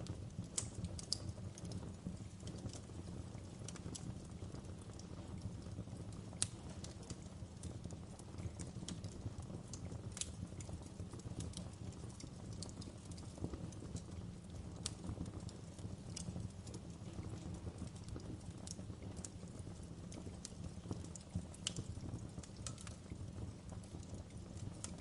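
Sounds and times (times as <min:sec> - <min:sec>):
logs crackling and popping: 0:00.0 - 0:25.0
wood fire rumbling: 0:00.0 - 0:25.0.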